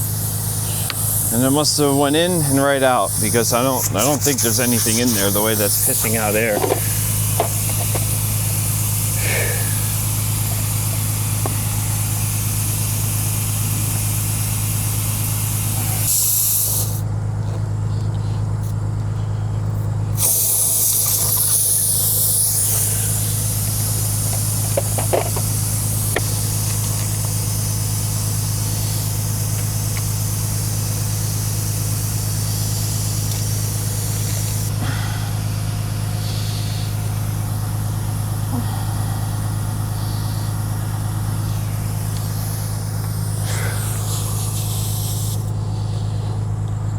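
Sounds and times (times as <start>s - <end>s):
air hissing: 0.0s - 17.1s, 20.1s - 46.7s
diesel engine idling: 0.0s - 46.9s.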